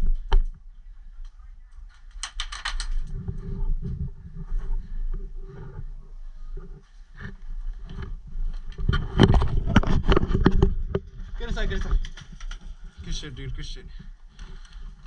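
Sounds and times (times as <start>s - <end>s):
wind rumble on microphone: 0.0s - 13.3s.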